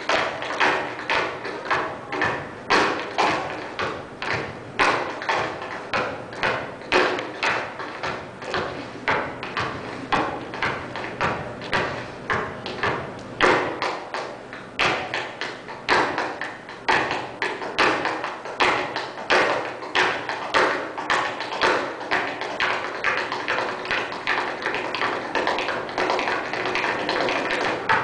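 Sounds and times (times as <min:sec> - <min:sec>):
basketball dribbled on boards: 0:00.0 - 0:28.0
tap shoes striking stage floor: 0:00.0 - 0:28.0.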